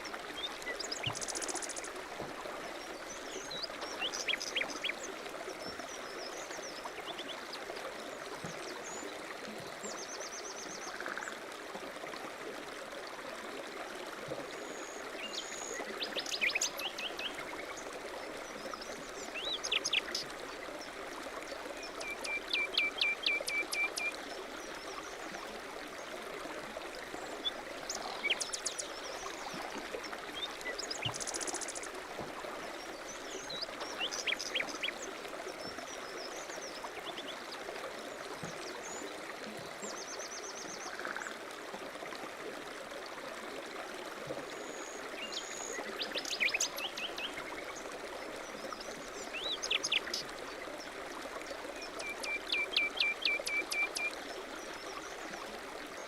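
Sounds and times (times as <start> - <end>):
running stream: 0.0 - 56.0.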